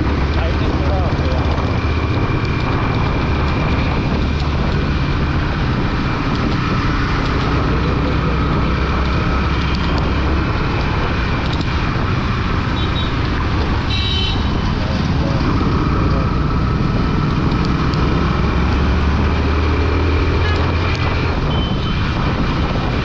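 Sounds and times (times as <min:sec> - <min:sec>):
motorcycle engine: 0:00.0 - 0:23.0
road noise: 0:00.0 - 0:23.0
wind on microphone: 0:00.0 - 0:23.0.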